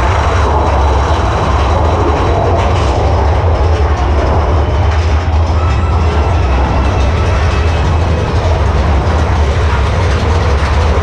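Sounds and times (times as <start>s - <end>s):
roller coaster cars rumbling: 0.0s - 11.0s.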